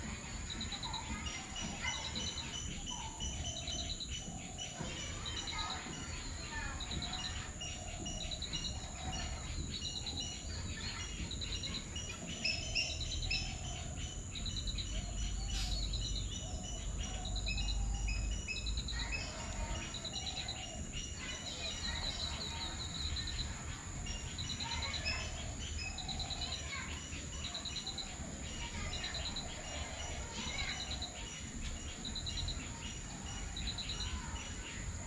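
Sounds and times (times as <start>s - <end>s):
birds chirping: 0.0s - 35.0s
rapid bird trills: 0.0s - 35.0s.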